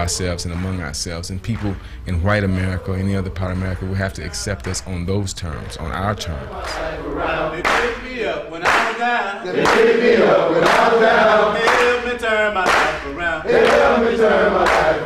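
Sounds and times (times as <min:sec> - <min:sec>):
men chanting: 0:00.0 - 0:04.9, 0:05.8 - 0:15.0.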